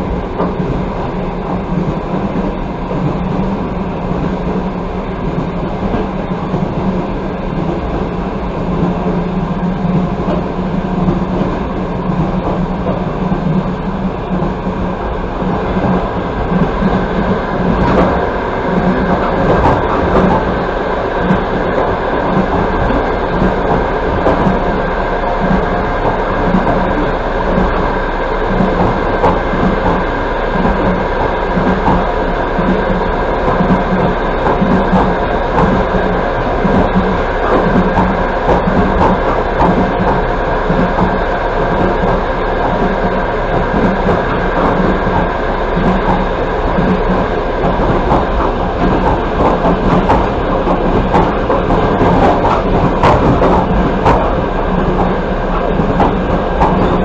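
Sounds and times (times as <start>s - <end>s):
low hum: 0.0s - 57.0s
train wheels rumbling on rails: 0.0s - 57.0s.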